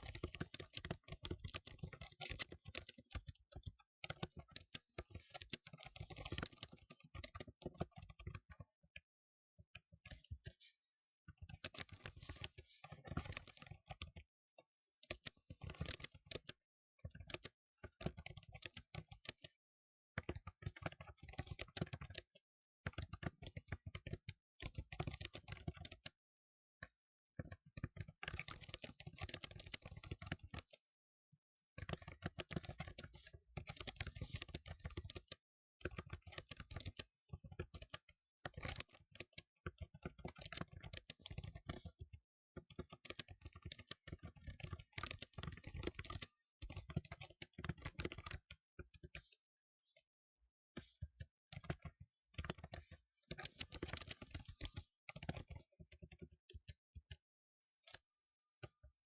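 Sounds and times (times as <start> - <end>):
fast typing on a keyboard: 0.0 - 8.7, 11.4 - 14.3, 15.1 - 19.6, 20.2 - 26.2, 26.8 - 30.8, 31.8 - 49.4, 50.8 - 57.2.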